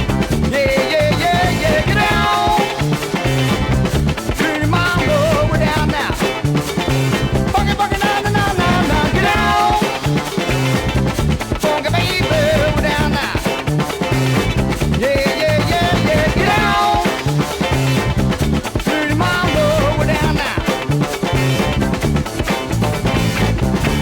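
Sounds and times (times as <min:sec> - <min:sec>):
drum and bass groove: 0:00.0 - 0:24.0
repeating lead riff: 0:00.0 - 0:24.0.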